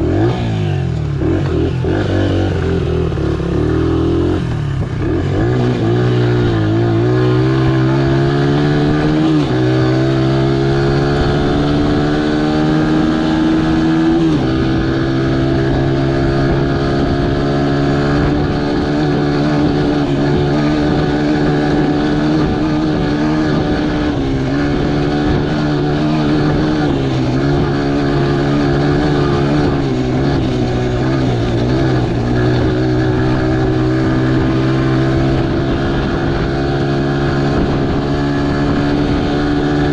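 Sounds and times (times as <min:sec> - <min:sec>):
motorcycle engine under load: 0:00.0 - 0:39.9.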